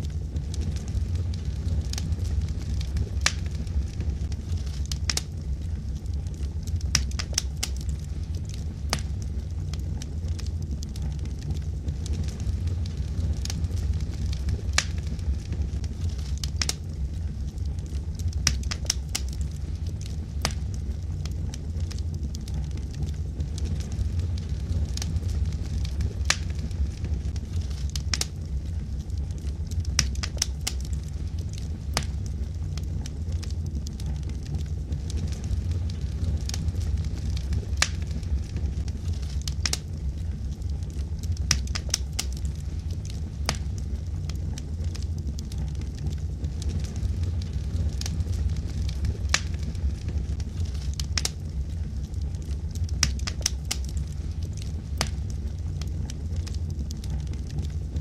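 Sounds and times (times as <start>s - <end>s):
fire crackles and pops: 0.0s - 58.0s
low rumble of flames: 0.0s - 58.0s.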